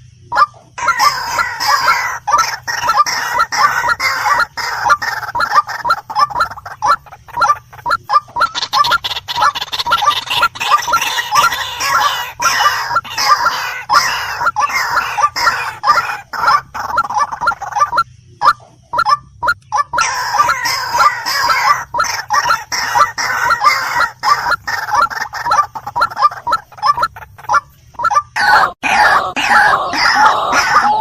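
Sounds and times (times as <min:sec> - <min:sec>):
waterhen calling harsh notes: 0:00.4 - 0:31.0.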